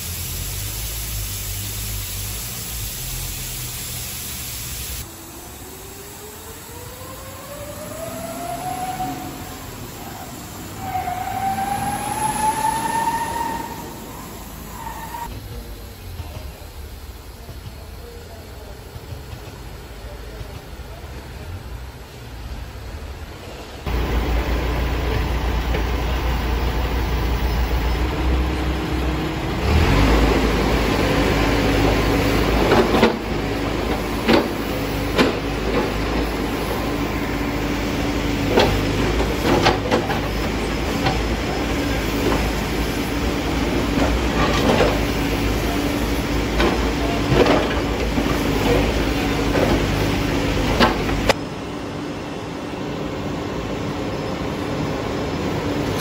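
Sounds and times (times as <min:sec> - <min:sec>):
diesel engine under load: 0:05.0 - 0:56.0.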